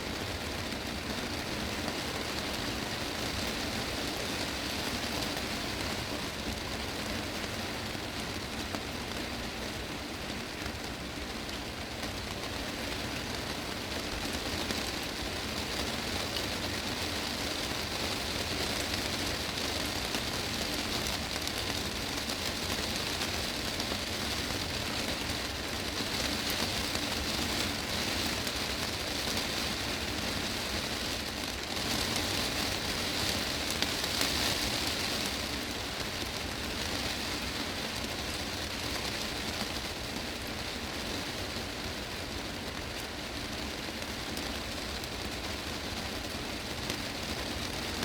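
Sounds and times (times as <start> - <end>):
heavy rain on glass roof: 0.0 - 48.0.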